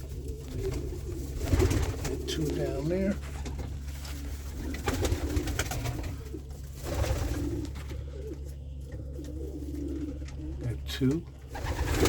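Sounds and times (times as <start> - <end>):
pigeons cooing: 0.0 - 12.0
steady low hum: 0.0 - 12.0.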